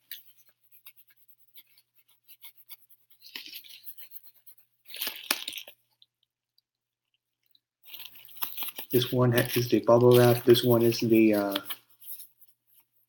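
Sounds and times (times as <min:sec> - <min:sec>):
bubble wrap crinkling: 0:00.0 - 0:06.1, 0:07.8 - 0:13.0.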